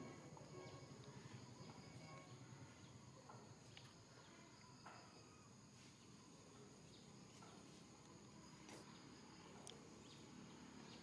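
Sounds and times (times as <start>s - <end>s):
faint chirps: 0.0s - 11.0s.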